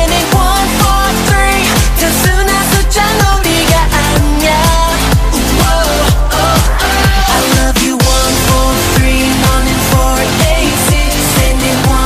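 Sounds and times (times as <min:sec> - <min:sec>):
electronic dance-pop music: 0:00.0 - 0:12.0
kick drum: 0:00.0 - 0:12.0.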